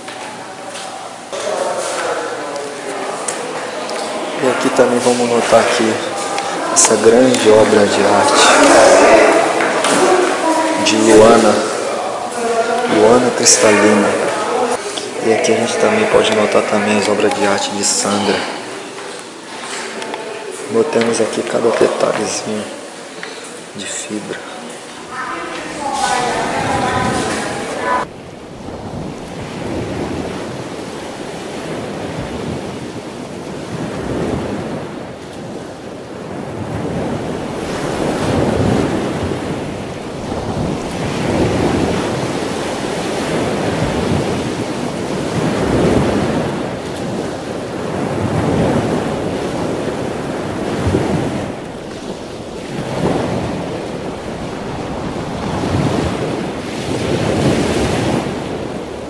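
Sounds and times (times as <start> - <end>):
ocean waves breaking: 0.0 - 20.6, 21.8 - 59.0.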